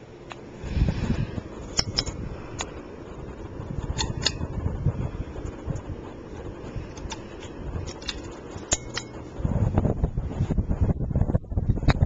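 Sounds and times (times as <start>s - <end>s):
fan clicks: 0.0s - 10.5s, 11.6s - 12.0s
ceiling fan whoosh: 0.0s - 12.0s
wind buffeting microphone: 0.4s - 12.0s.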